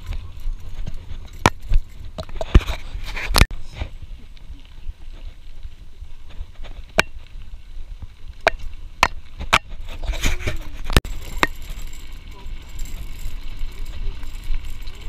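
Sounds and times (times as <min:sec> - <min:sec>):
low rumble of riding noise: 0:00.0 - 0:15.0.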